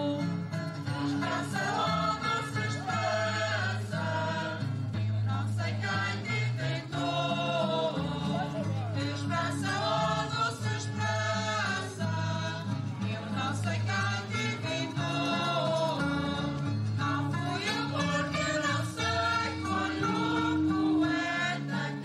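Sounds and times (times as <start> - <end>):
guitars: 0.0 - 22.0
voices singing together: 0.0 - 22.0.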